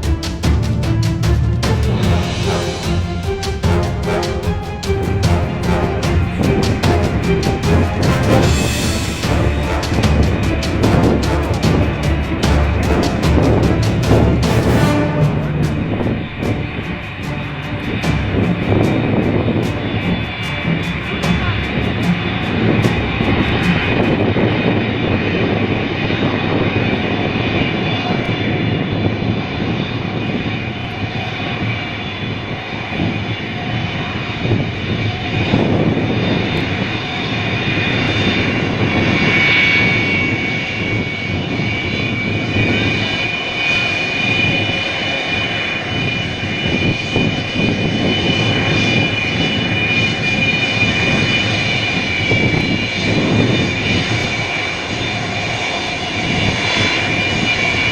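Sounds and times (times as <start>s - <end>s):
airplane engines rumbling: 0.0s - 57.9s.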